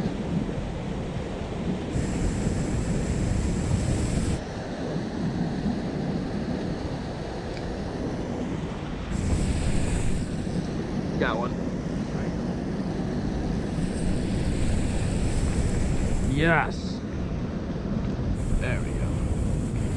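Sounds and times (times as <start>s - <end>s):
wind buffeting microphone: 0.0s - 19.9s
faint high whine: 1.9s - 17.1s, 18.0s - 19.9s.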